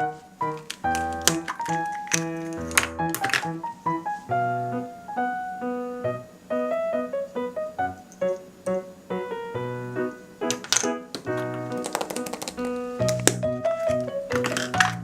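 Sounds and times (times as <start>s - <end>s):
light piano melody with bass: 0.0s - 15.0s.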